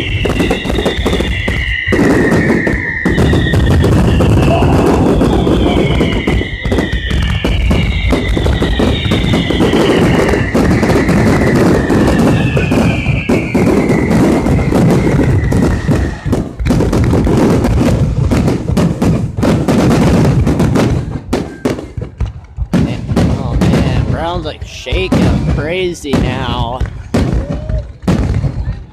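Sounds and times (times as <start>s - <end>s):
fireworks booms and crackles: 0.0s - 28.9s
fireworks whistling: 0.0s - 28.9s.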